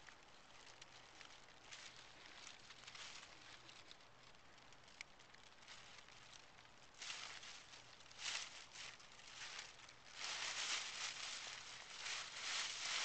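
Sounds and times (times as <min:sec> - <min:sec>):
dry leaves rustling: 0:00.0 - 0:13.0.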